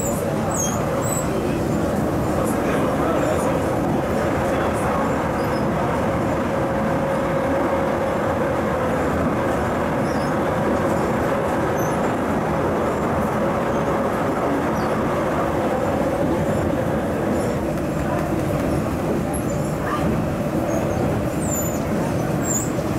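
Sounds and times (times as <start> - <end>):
train rumble on track: 0.0 - 22.9.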